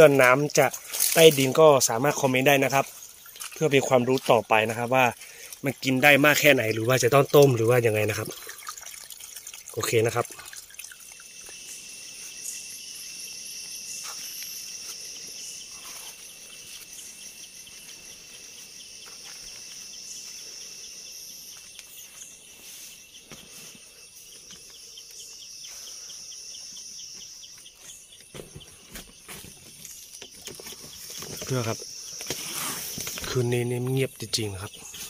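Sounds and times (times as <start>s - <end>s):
high continuous insect trill: 0.0s - 35.0s
low pulsing insect trill: 0.0s - 35.0s.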